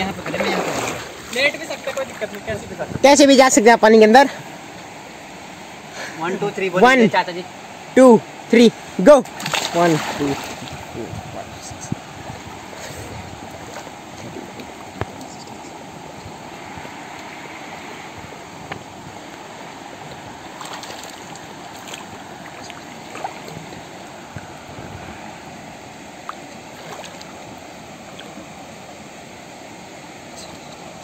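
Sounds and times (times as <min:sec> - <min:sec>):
river running over stones: 0:00.0 - 0:31.0.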